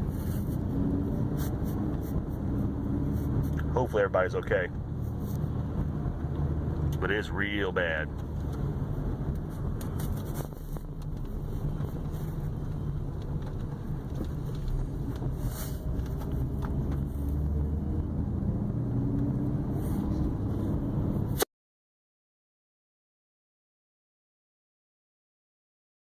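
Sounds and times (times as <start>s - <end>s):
car engine and road noise: 0.0s - 21.5s.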